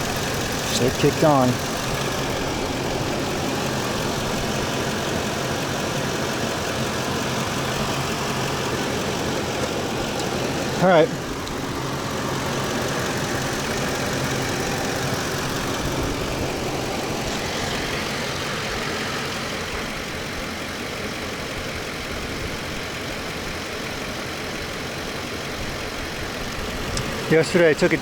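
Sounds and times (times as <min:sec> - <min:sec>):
van engine idling: 0:00.0 - 0:28.0.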